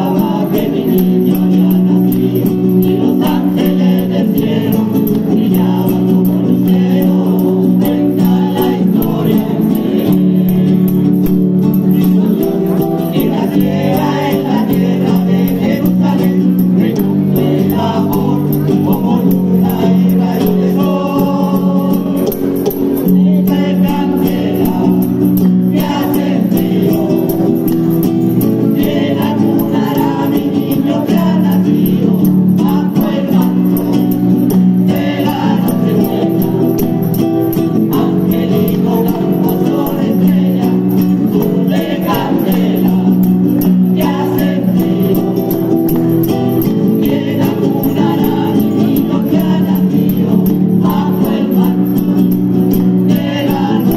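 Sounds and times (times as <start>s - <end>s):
choir singing: 0.0s - 53.9s
classical guitar: 0.0s - 53.9s.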